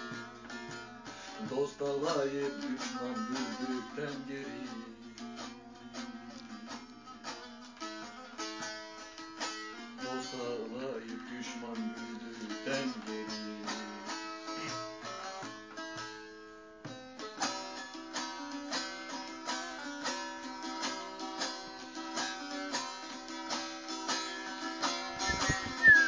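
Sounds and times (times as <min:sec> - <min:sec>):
lute plucked notes: 0:00.0 - 0:26.0.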